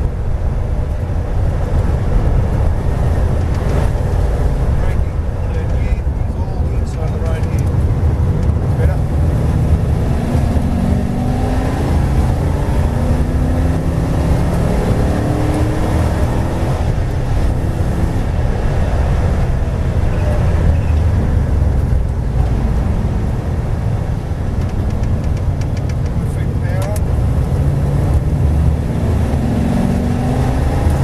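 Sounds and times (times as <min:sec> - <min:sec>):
race car engine accelerating: 0:02.6 - 0:31.0.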